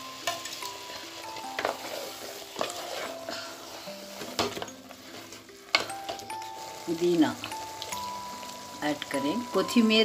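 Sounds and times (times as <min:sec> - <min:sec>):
paste sizzling in pot: 0:00.0 - 0:10.0
soft background music: 0:00.0 - 0:10.0.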